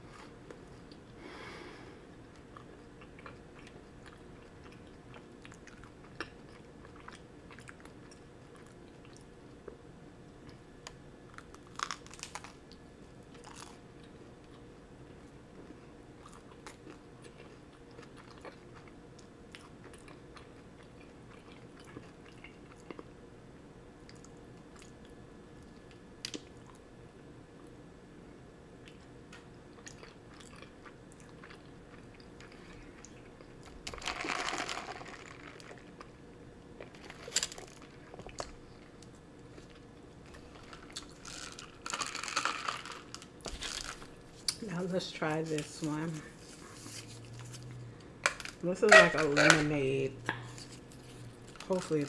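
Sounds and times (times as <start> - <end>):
chewing and crunching bagel: 2.1 - 23.3, 24.0 - 26.9, 28.8 - 48.6.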